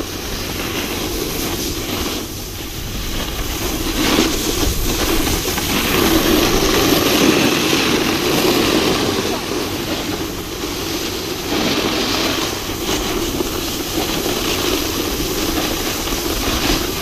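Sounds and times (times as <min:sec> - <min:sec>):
ski edges scraping snow: 0:00.0 - 0:17.0
wind rushing over microphone: 0:00.0 - 0:17.0.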